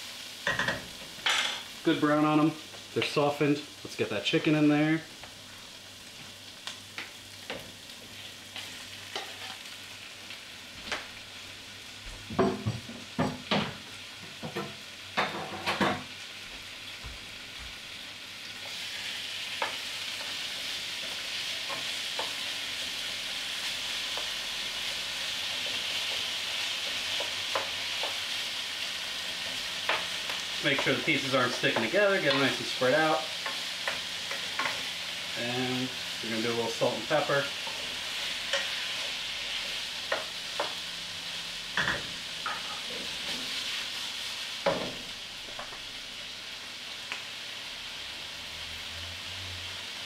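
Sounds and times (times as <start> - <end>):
chicken sizzling in a frying pan: 0.0 - 50.0.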